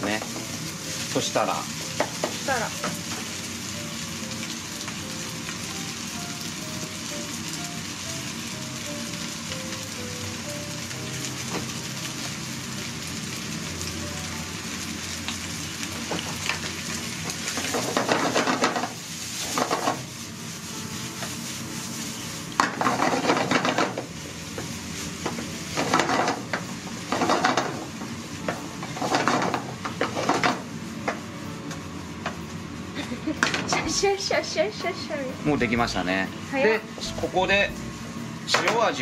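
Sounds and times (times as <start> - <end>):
food sizzling in frying pan: 0.0 - 39.0.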